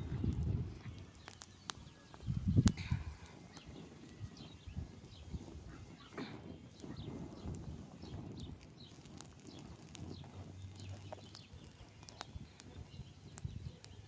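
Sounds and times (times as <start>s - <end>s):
campfire crackling: 0.0s - 14.0s
small birds chirping: 0.0s - 14.0s.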